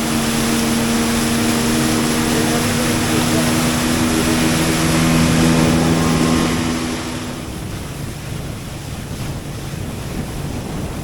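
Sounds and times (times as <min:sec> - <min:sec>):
motorboat engine humming: 0:00.0 - 0:11.0
water noise: 0:00.0 - 0:11.0
wind buffeting microphone: 0:00.0 - 0:11.0.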